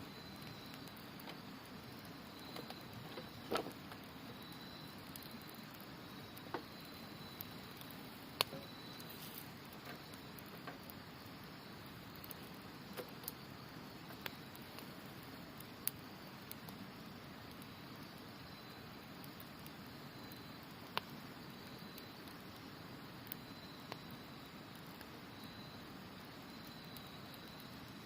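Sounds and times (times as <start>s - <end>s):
campfire crackling and popping: 0.0s - 28.0s
faint insect trill: 0.0s - 28.0s.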